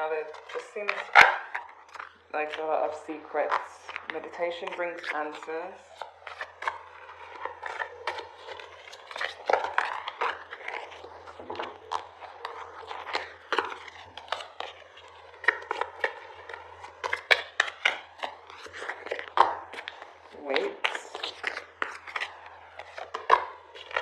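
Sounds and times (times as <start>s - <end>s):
faint low hum: 0.0s - 24.0s
cards being shuffled: 0.2s - 24.0s.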